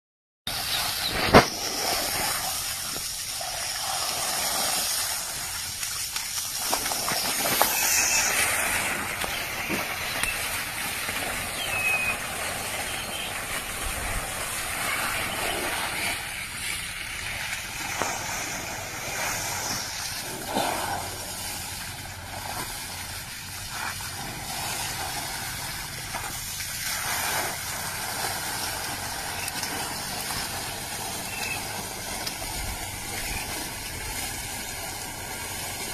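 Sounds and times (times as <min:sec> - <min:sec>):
water jetting from pipe: 0:00.5 - 0:35.9
water splashing: 0:00.5 - 0:35.9.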